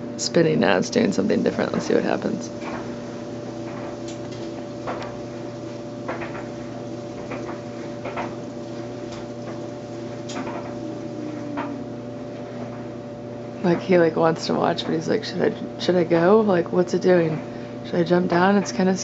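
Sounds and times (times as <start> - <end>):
washing machine spinning drum: 0.0 - 19.0.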